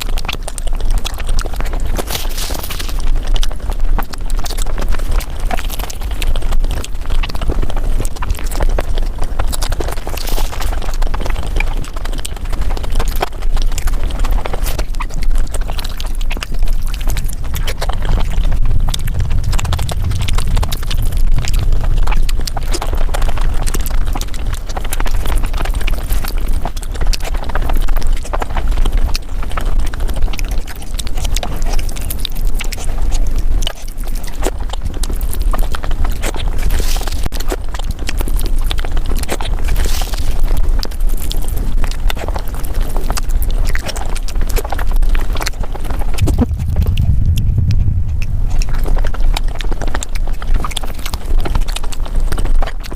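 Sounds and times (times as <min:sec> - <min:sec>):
sped-up chewing and mouth smacks: 0:00.0 - 0:52.9.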